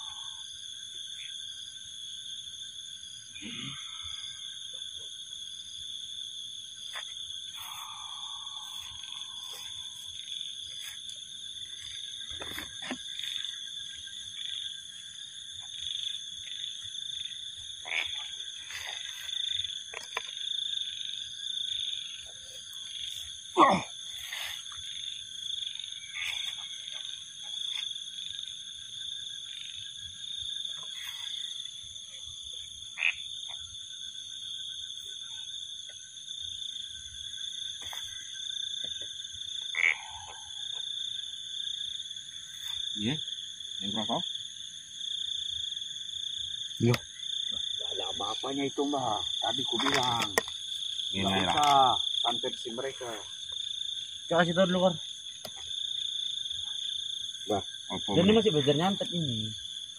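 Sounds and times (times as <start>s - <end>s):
short frog calls: 0.0s - 1.7s, 3.2s - 5.7s, 6.3s - 59.9s
frogs trilling: 0.0s - 59.9s.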